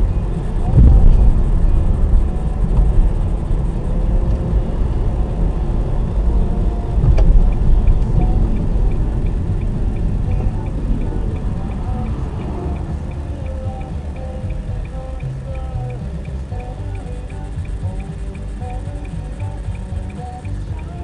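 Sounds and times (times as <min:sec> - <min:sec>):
car road and engine rumble: 0:00.0 - 0:21.0
turn signal ticking: 0:00.0 - 0:21.0.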